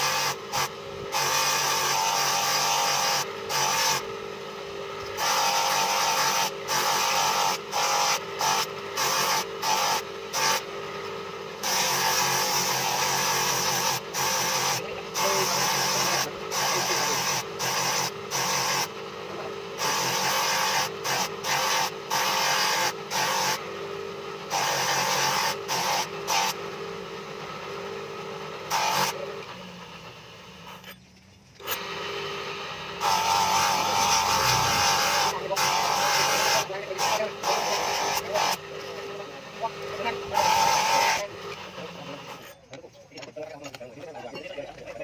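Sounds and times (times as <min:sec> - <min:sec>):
knife blade grinding on wheel: 0:00.0 - 0:04.1, 0:04.9 - 0:27.1, 0:28.7 - 0:42.8
grinding wheel motor humming: 0:00.0 - 0:45.0.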